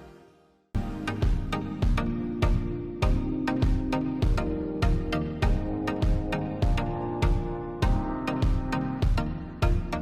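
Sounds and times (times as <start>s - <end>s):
instrumental music with steady beat: 0.8s - 10.0s.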